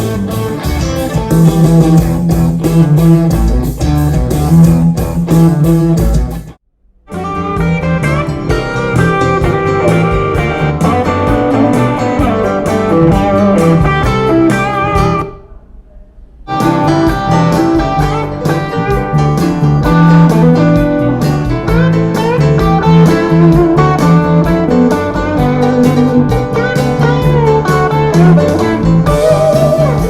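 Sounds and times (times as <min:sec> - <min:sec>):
guitar music with strong bass: 0:00.0 - 0:15.4, 0:16.5 - 0:30.0.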